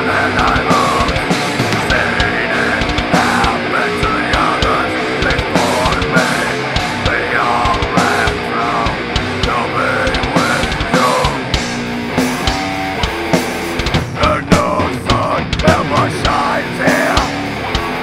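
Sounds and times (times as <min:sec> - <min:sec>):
drum kit beat: 0:00.0 - 0:18.0
guitar: 0:00.0 - 0:18.0
heavy rock band playing: 0:00.0 - 0:18.0.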